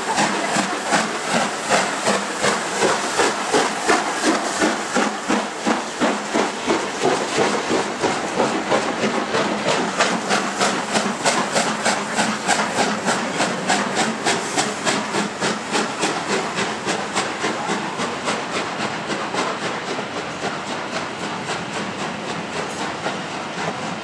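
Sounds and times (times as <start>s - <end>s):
steam locomotive exhaust beats: 0.0s - 24.0s.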